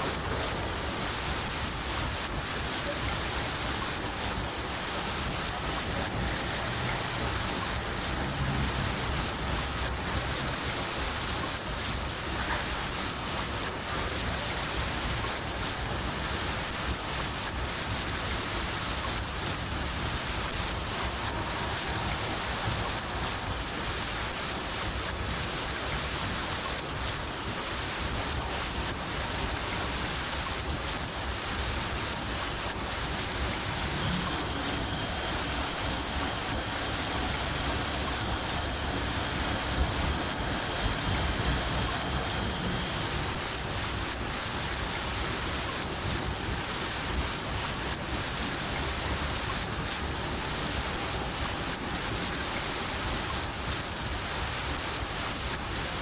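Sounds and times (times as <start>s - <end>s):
cricket chirping: 0.0s - 56.0s
steady rain: 0.0s - 56.0s.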